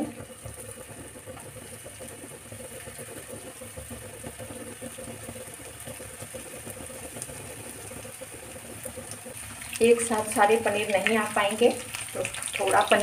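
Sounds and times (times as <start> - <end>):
cheese cubes sizzling in oil: 0.0 - 13.0.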